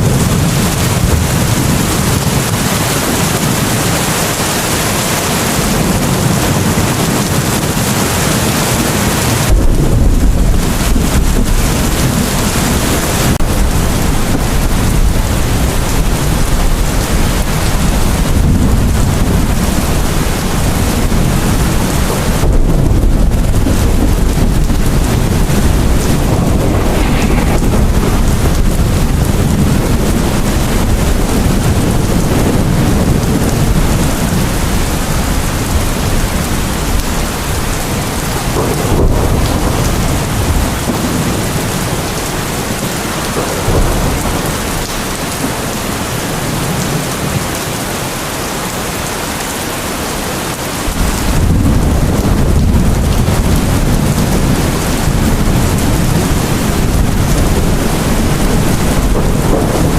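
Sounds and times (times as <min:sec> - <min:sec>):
thunder rumbling: 0:00.0 - 0:47.5, 0:50.8 - 0:59.9
heavy rain: 0:00.0 - 0:59.9.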